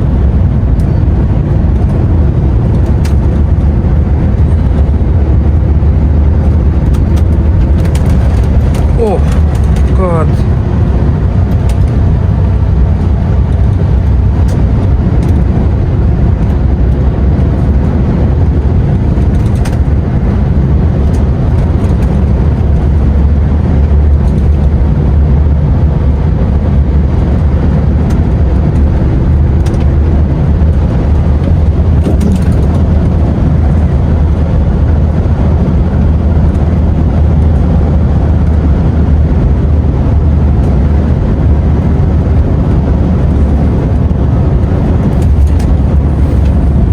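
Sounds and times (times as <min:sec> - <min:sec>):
truck engine and road noise: 0:00.0 - 0:46.9.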